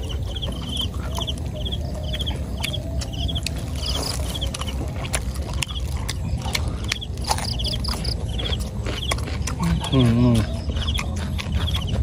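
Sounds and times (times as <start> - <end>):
insects chirping in trills: 0.0 - 11.0
steady low rumble: 0.0 - 12.0.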